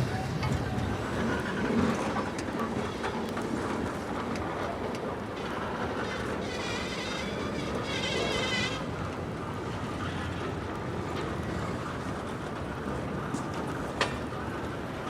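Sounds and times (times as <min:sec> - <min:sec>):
train rumbling by: 0:00.0 - 0:15.0.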